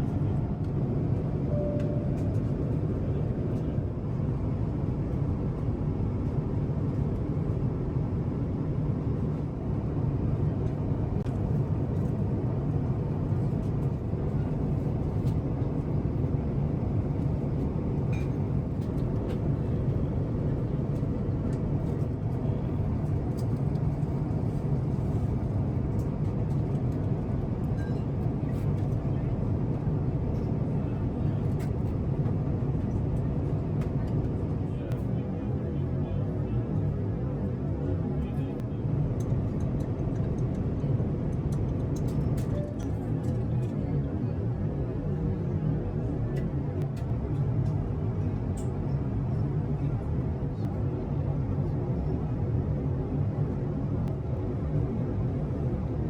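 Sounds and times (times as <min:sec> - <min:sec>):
aircraft engine and airflow rumble: 0:00.0 - 0:56.0.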